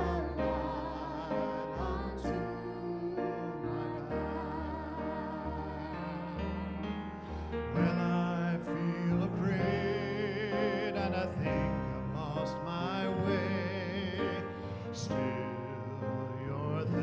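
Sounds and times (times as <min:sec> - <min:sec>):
person singing with vibrato: 0:00.0 - 0:17.0
piano: 0:00.0 - 0:17.0.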